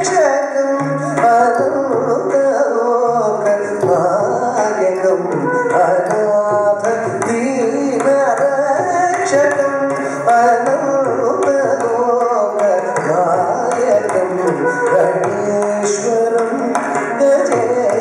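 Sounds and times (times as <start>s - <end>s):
drum percussion: 0.0s - 18.0s
person singing: 0.0s - 18.0s.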